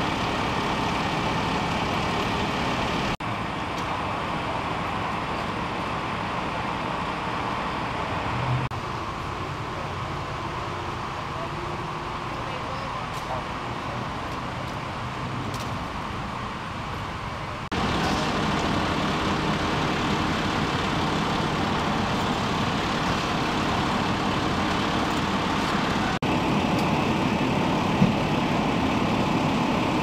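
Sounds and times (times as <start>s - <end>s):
traffic drone: 0.0s - 30.0s.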